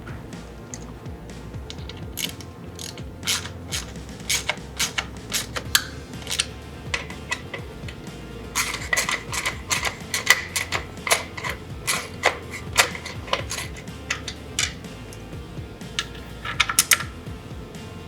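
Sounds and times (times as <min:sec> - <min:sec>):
hand tools clicking on metal: 0:00.0 - 0:17.4.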